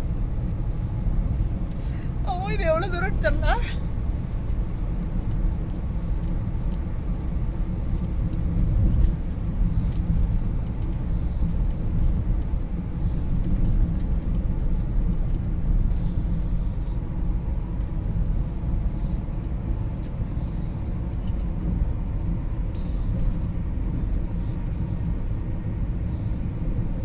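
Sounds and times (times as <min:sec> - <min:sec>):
tyre and engine rumble: 0:00.0 - 0:27.0.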